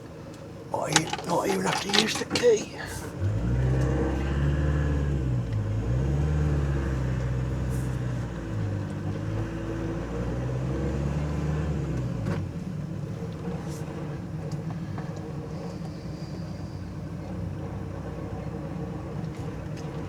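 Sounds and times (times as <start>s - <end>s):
diesel van engine running: 0.0s - 20.0s.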